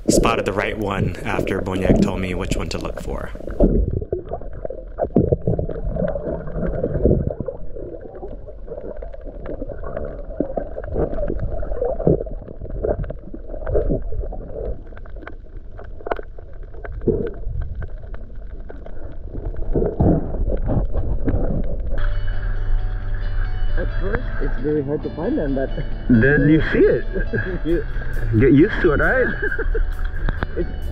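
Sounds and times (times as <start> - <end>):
muffled underwater water movement: 0.0 - 30.9.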